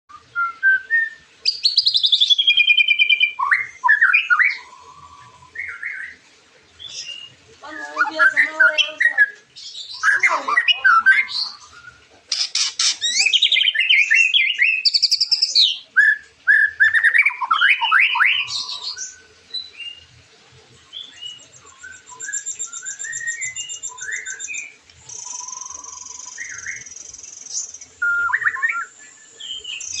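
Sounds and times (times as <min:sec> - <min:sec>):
bird singing whistles and trills: 0:00.1 - 0:06.2, 0:06.8 - 0:20.1, 0:20.9 - 0:30.0.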